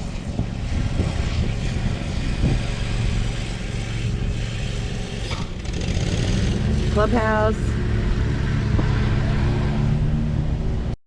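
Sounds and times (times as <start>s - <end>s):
car engine rumble: 0.0s - 11.0s
tyres on road: 0.0s - 11.0s.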